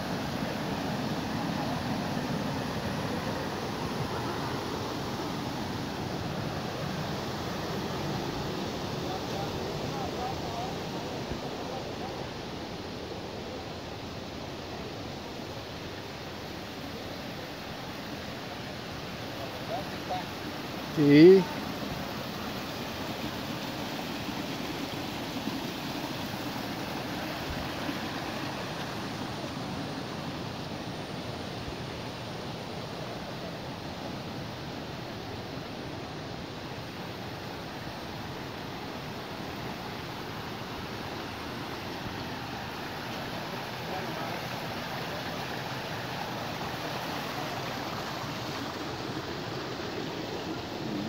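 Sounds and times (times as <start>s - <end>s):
stream flowing over cascades: 0.0s - 51.0s.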